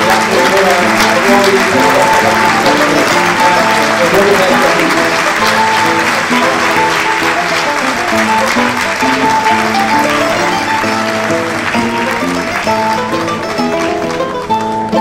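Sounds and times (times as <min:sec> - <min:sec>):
audience applauding: 0:00.0 - 0:15.0
music with held notes: 0:00.0 - 0:15.0.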